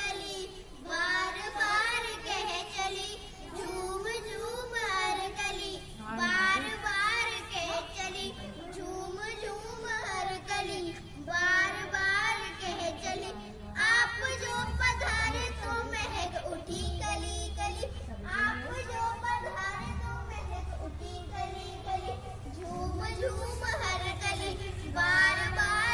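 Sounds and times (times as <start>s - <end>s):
girls singing: 0.0s - 25.9s.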